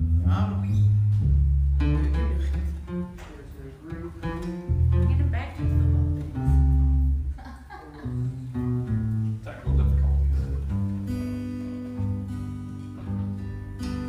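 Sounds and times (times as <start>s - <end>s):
guitar chords: 0.0s - 14.0s
low bass notes: 0.0s - 14.0s.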